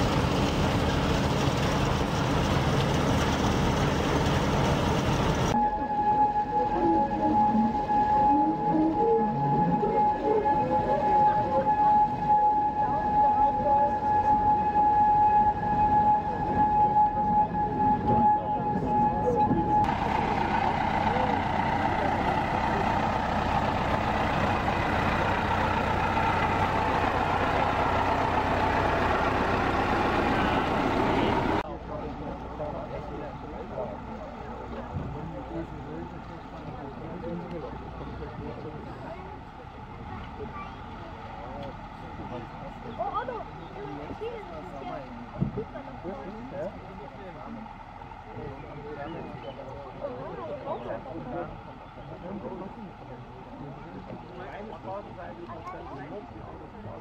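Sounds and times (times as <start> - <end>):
heavy engine droning: 0.0 - 57.0.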